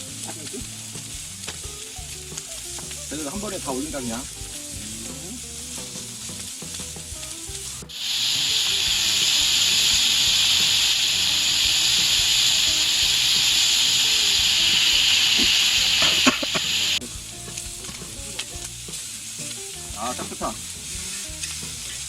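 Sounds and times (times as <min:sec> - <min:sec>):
loud high-pitched hiss: 0:00.0 - 0:22.0.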